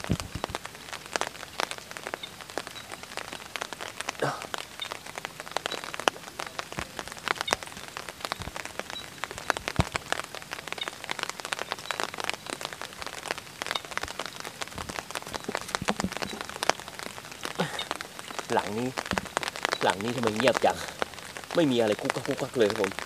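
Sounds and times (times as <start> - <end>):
sharp raindrop hits: 0.0 - 23.0
steady rain falling: 0.0 - 23.0.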